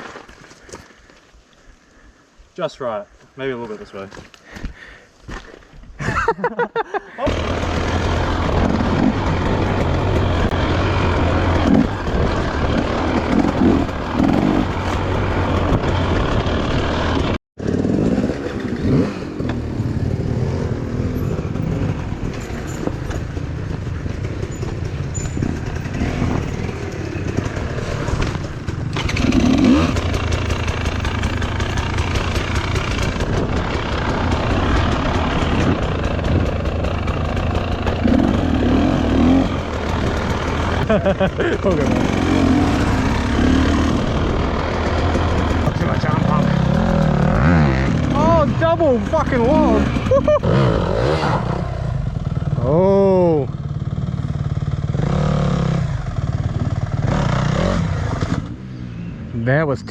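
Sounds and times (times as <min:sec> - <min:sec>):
dirt bike engine revving: 0:07.3 - 0:58.8.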